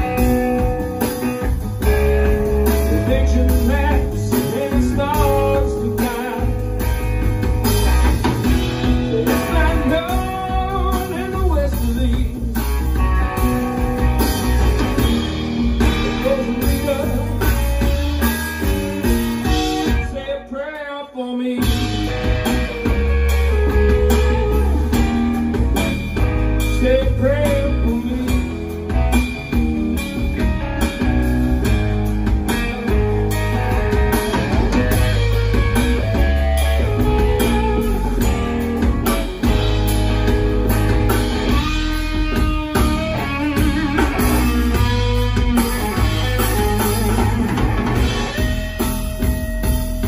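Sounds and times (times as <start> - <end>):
electric guitar lead: 0.0 - 20.8, 21.6 - 50.0
bass guitar: 0.0 - 50.0
drum kit: 0.0 - 50.0.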